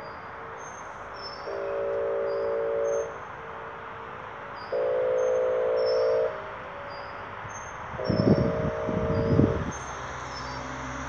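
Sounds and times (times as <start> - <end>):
tornado warning siren: 1.4 - 11.0.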